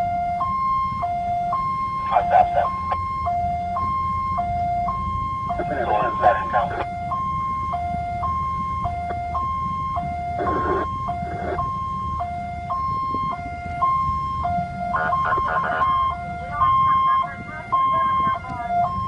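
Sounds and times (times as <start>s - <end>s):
ambulance two-tone siren: 0.0s - 19.0s
engine and road rumble: 0.0s - 19.0s.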